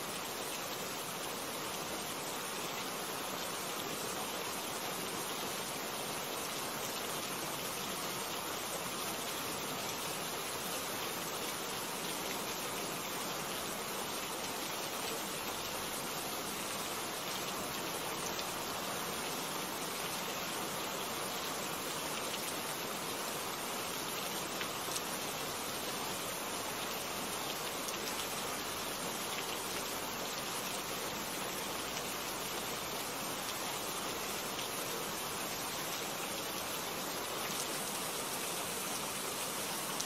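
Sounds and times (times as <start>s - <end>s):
heavy rain falling: 0.2s - 40.0s.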